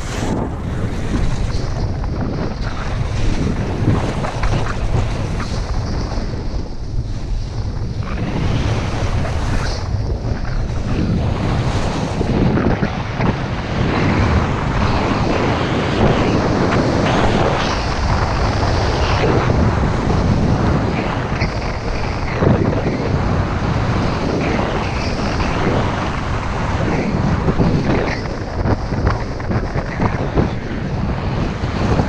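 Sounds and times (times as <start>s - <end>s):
skis carving on packed snow: 0.0s - 32.0s
wind buffeting microphone: 0.0s - 32.0s.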